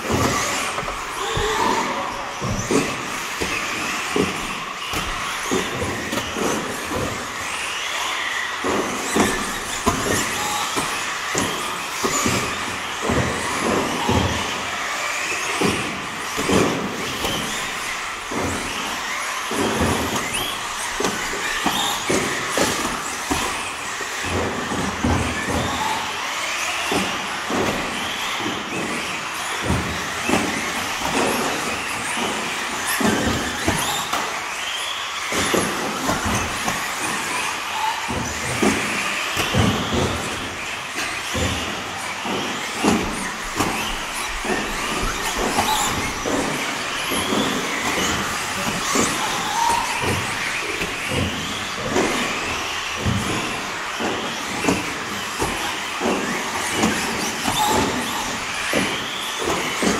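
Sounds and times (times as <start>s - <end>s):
electric motors whining: 0.0s - 59.9s
rc cars knocking on track: 0.0s - 59.9s.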